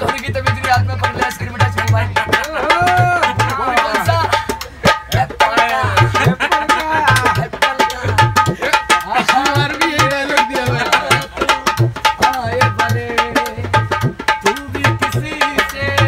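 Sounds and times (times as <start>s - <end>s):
hand drum fast folk rhythm: 0.0s - 16.0s.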